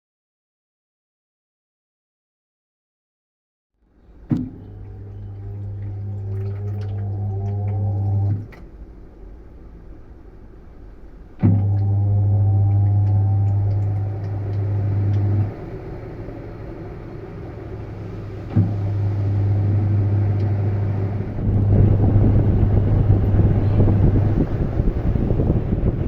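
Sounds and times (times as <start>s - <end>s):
washing machine motor humming: 4.0s - 26.0s
rushing churning noise: 4.1s - 11.8s, 12.5s - 26.0s.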